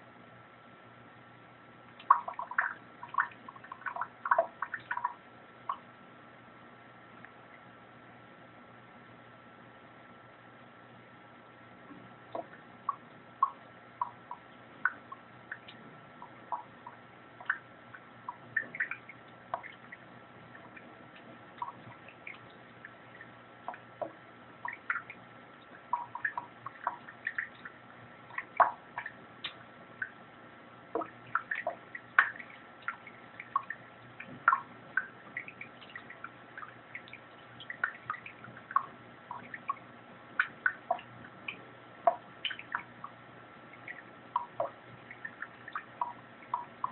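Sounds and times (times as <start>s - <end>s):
faint steady whine: 0.0s - 46.9s
water dripping into sink: 1.9s - 5.9s, 12.0s - 30.2s, 30.8s - 46.9s.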